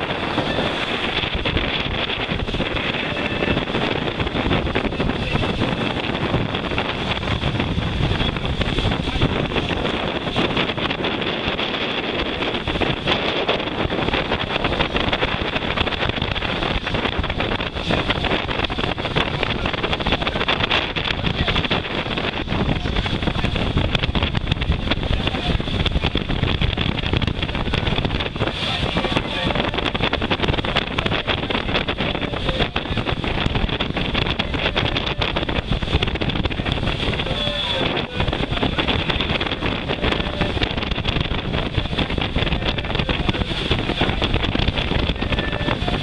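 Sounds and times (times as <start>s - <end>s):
water splashing along hull: 0.0s - 46.0s
wind buffeting microphone: 0.0s - 46.0s.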